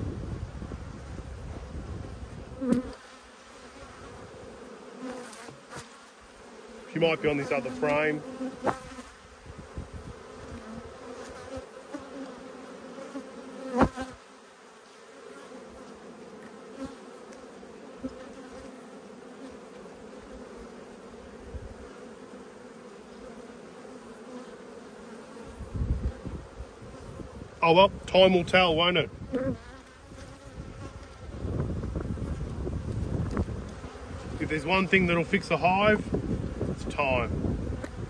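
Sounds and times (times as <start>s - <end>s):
honey bees buzzing: 0.0s - 38.0s.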